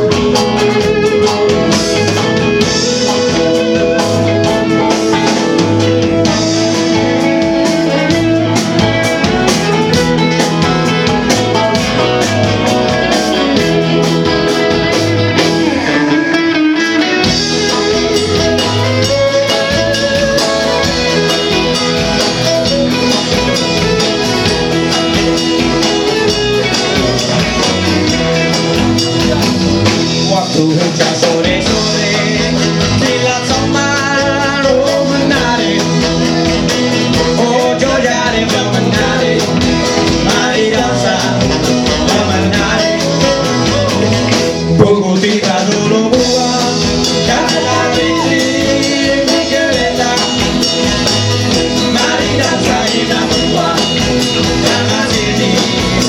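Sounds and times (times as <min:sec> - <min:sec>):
band playing instrumental: 0:00.0 - 0:56.0.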